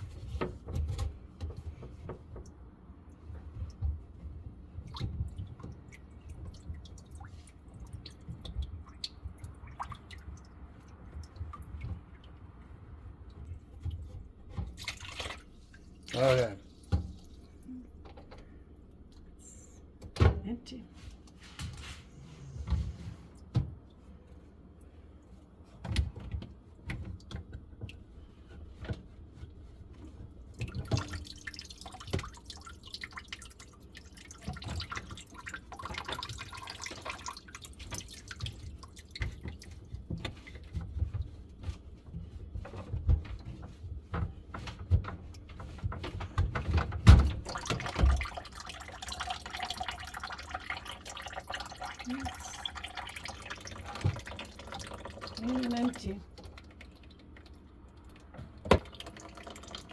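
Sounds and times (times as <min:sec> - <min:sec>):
water splashing and dripping in sink: 0:00.0 - 0:20.6, 0:22.7 - 0:59.9.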